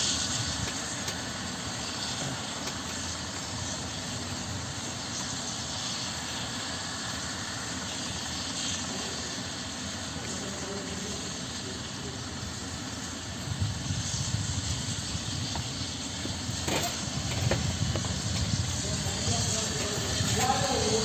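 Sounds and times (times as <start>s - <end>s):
helicopter engine and rotor running: 0.0s - 21.0s.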